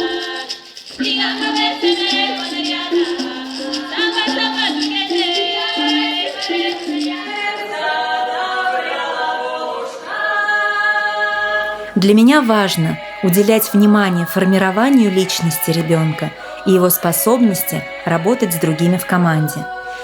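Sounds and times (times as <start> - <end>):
rattle keeping time: 0.0 - 7.7, 11.4 - 20.0
children singing: 0.0 - 10.2, 11.4 - 20.0.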